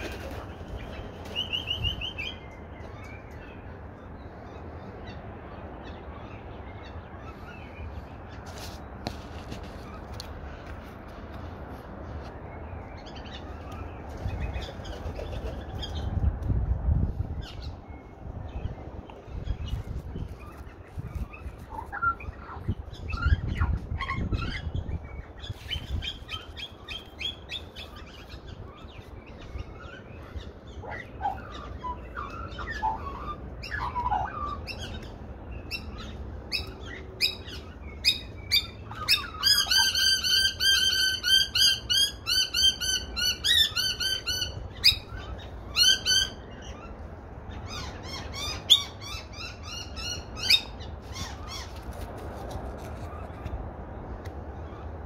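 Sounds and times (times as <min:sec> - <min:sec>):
birds chirping and warbling: 0:00.0 - 0:55.0.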